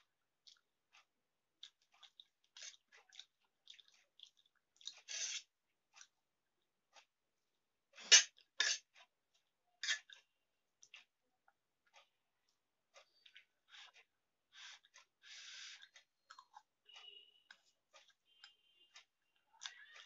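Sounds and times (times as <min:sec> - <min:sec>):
person chewing food: 0:00.1 - 0:07.2, 0:07.9 - 0:20.0.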